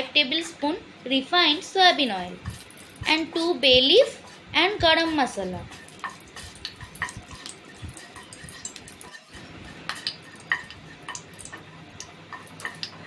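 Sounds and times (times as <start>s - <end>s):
spices sizzling in oil: 0.4s - 13.0s.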